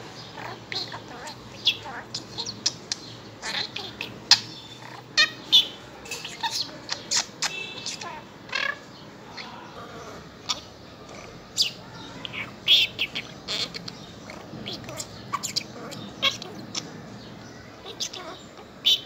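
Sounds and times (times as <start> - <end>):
budgerigar chattering: 0.2 - 19.0.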